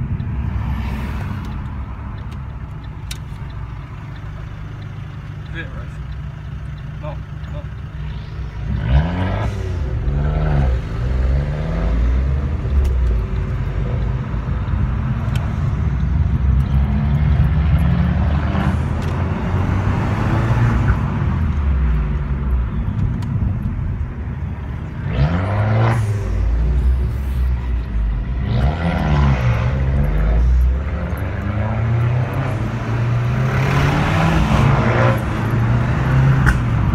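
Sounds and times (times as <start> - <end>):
car engine accelerating: 0.0 - 36.9
road noise: 0.0 - 36.9.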